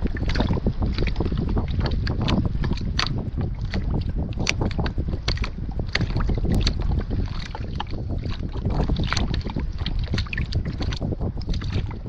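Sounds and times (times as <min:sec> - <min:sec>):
water lapping against kayak hull: 0:00.0 - 0:12.0
wind buffeting the microphone: 0:00.0 - 0:12.0.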